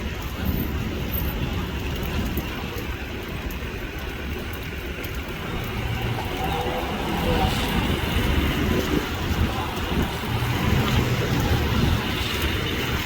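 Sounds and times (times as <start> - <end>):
steady rain: 0.0 - 13.0
traffic on wet road: 0.0 - 13.0.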